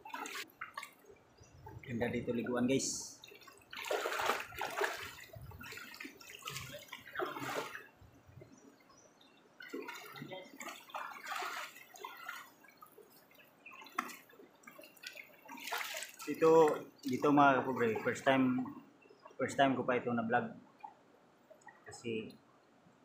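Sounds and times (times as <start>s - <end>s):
river water splashing: 0.0s - 19.4s.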